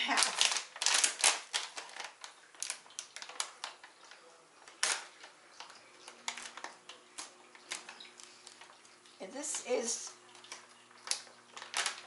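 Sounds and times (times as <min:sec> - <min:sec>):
plastic pouch crinkling: 0:00.0 - 0:09.7, 0:10.3 - 0:12.0.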